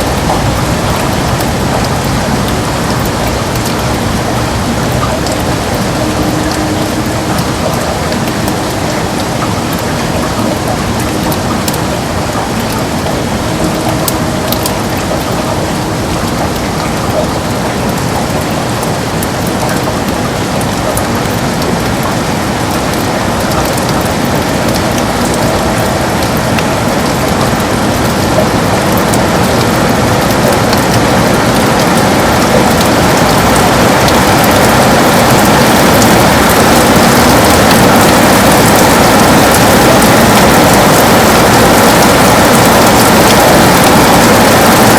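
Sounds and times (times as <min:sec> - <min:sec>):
heavy rain on a window: 0:00.0 - 0:44.9.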